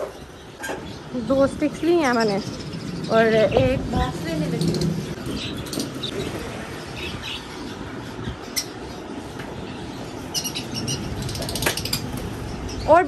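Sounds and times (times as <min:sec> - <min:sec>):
small birds chirping: 0:00.0 - 0:13.0
steady background noise: 0:00.0 - 0:13.0.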